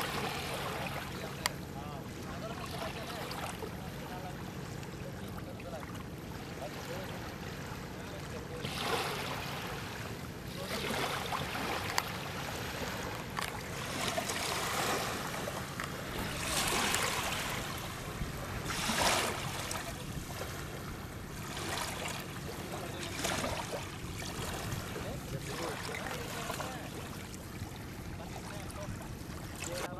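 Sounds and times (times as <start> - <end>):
water splashing against boat: 0.0 - 29.9.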